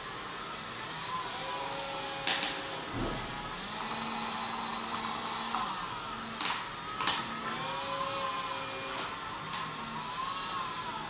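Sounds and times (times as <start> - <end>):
small electric motors whirring: 0.0 - 11.0.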